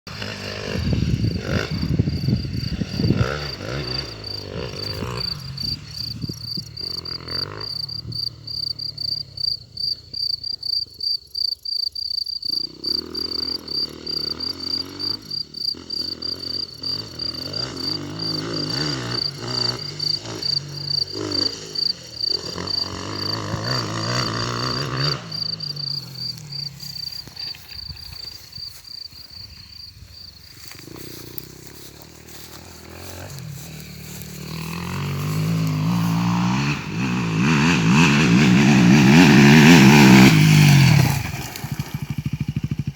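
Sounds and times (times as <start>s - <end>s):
motorcycle engines revving: 0.1s - 11.1s, 12.4s - 42.9s
cricket chirping: 0.1s - 42.9s.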